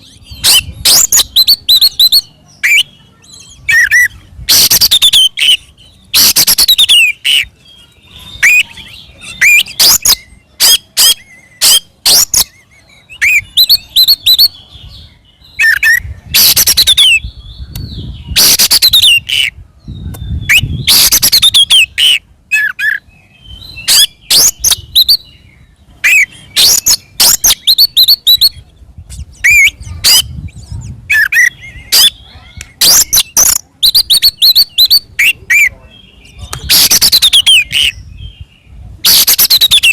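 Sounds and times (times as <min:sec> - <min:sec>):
songbird harsh rasping song: 0:00.0 - 0:39.9.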